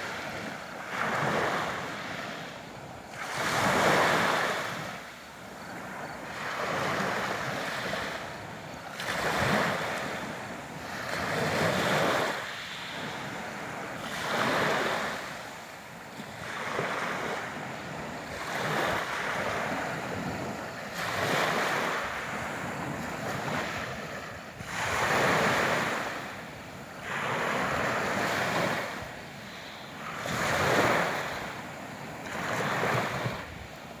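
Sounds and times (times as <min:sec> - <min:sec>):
sea waves breaking on shore: 0:00.0 - 0:34.0.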